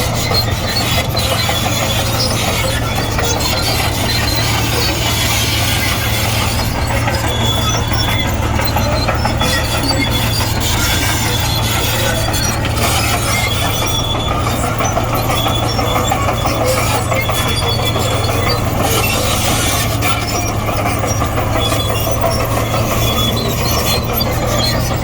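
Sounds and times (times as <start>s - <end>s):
bulldozer diesel engine running: 0.0s - 25.0s
steel tracks squeaking and clinking: 0.0s - 25.0s.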